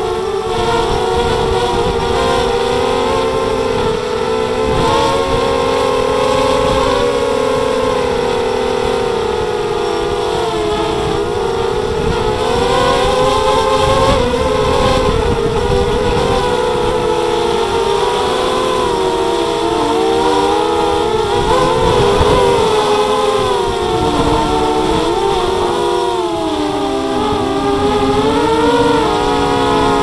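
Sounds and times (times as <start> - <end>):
drone propellers whining: 0.0 - 30.0
wind rumbling on microphone: 0.0 - 30.0.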